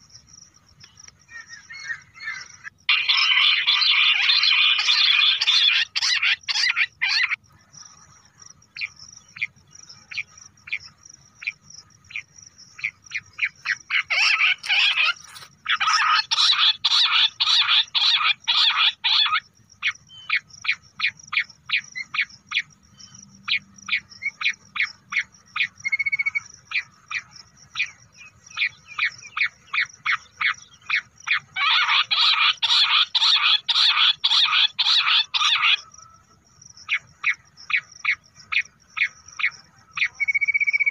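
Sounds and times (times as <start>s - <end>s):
quail chirping calls: 1.2s - 7.4s, 8.8s - 40.9s.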